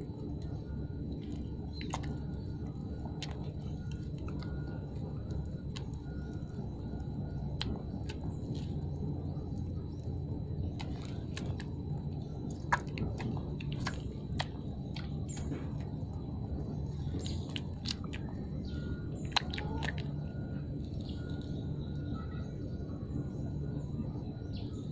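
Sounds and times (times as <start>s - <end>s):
low background hum: 0.0s - 24.9s.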